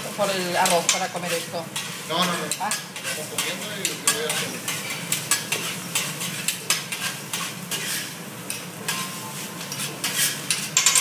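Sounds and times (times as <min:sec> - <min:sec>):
rice sizzling: 0:00.0 - 0:11.0
metal spatulas scraping griddle: 0:00.1 - 0:11.0.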